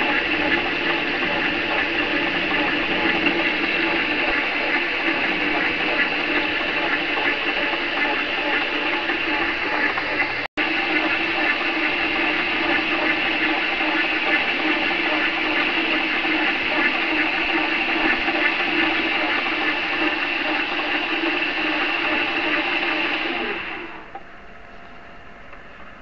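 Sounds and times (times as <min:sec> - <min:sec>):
metal lathe running: 0:00.0 - 0:24.2.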